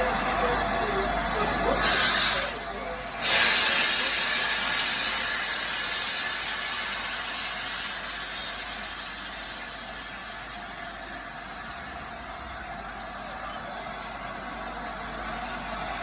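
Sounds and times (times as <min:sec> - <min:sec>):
steam locomotive hissing steam: 0:00.0 - 0:13.6.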